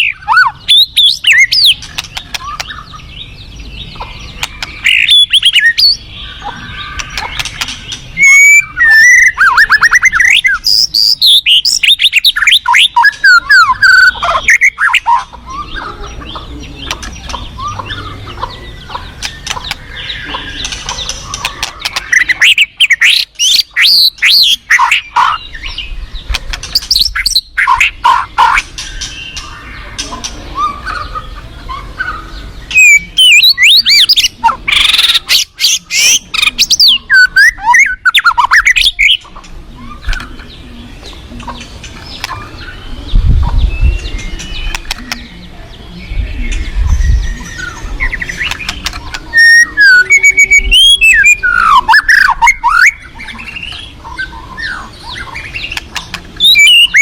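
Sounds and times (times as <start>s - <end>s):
bird singing whistles and chatters: 0.0s - 57.0s.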